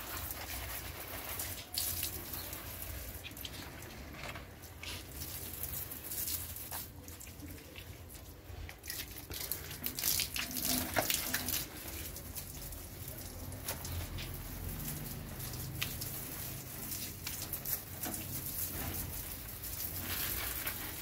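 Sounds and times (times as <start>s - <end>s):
water from hose splashing: 0.0s - 21.0s.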